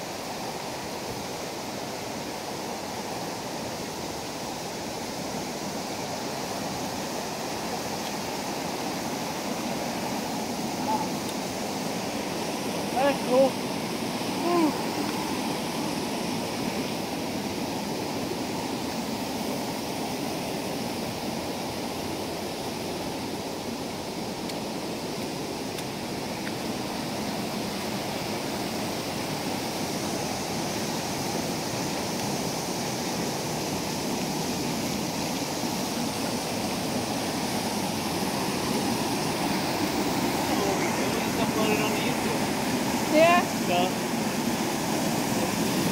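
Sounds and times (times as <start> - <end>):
creek water rushing over rocks: 0.0 - 45.9.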